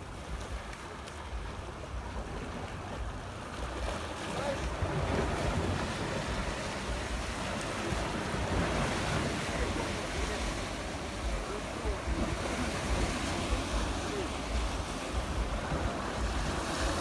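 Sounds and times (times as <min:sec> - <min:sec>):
sea waves washing onto shore: 0:00.0 - 0:17.0
wind buffeting microphone: 0:00.0 - 0:17.0.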